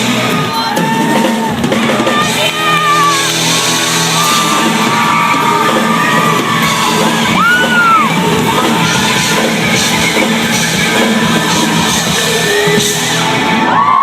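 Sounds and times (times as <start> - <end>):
audience shouting: 0.0 - 14.0.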